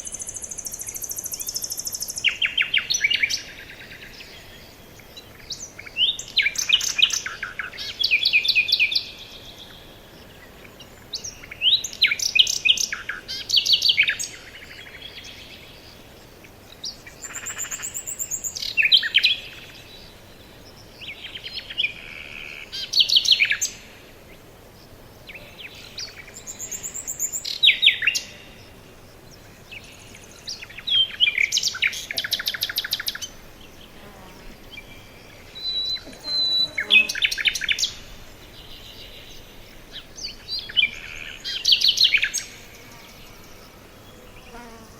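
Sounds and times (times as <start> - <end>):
quiet bird chirps: 0.0 - 44.9
songbirds trilling: 0.0 - 44.9.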